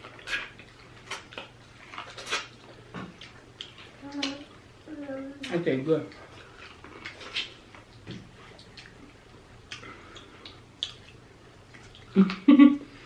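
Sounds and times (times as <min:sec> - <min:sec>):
wet mouth smacks and chewing: 0:00.0 - 0:04.4, 0:05.4 - 0:12.4.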